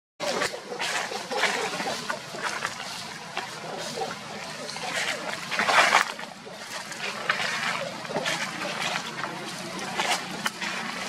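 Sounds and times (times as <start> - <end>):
monkeys scuffling in dry leaves: 0.2 - 11.0.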